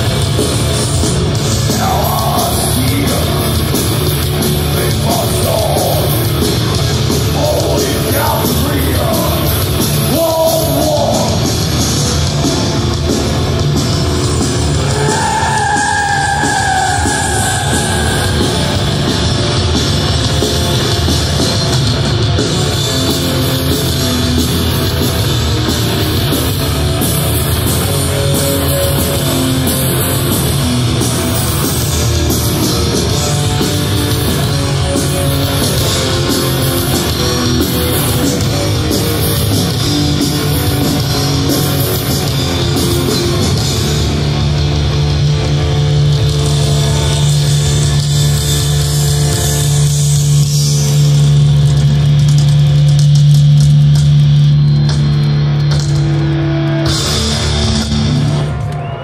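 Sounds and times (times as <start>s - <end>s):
distorted electric guitars: 0.0s - 59.0s
fast drums: 0.0s - 59.0s.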